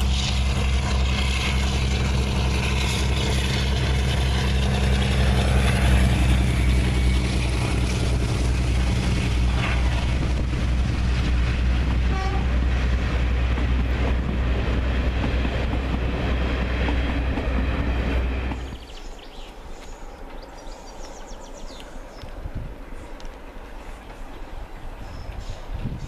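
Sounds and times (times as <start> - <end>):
diesel locomotive engines droning: 0.0 - 26.0
train coaches rolling by: 0.0 - 26.0.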